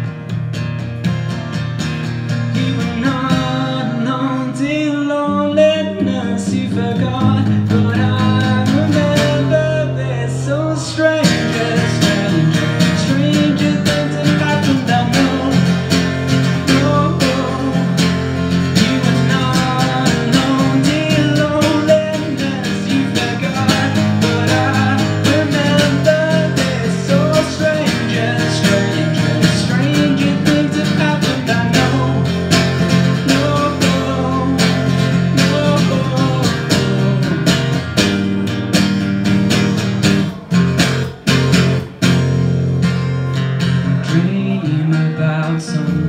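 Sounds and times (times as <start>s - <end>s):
acoustic guitar picked and strummed: 0.0s - 46.0s.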